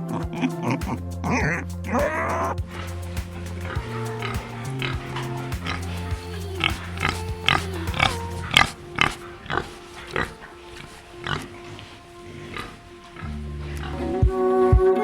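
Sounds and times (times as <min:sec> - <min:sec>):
background music: 0:00.0 - 0:15.0
pigs grunting and squealing: 0:00.1 - 0:14.2.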